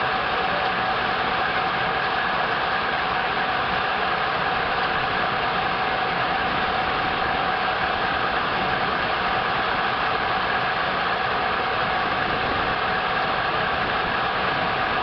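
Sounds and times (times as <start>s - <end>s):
steady mechanical whine: 0.0s - 15.0s
steam engine running: 0.0s - 15.0s.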